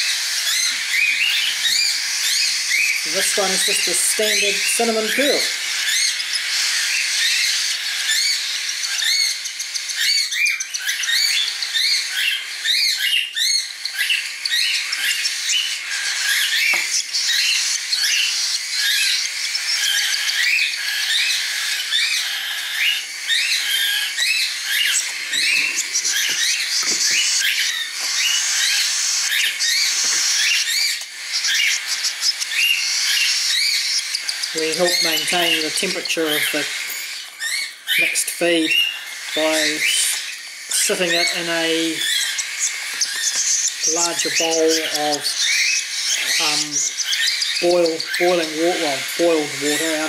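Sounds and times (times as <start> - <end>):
bird chick begging chirps: 0.0 - 50.0.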